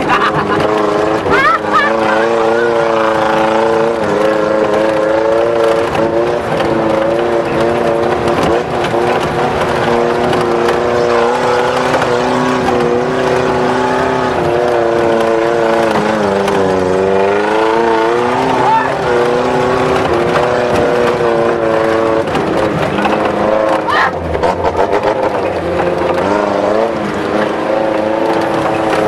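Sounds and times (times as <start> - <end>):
rattly road noise: 0.0 - 29.0
vehicle engine running: 0.0 - 29.0.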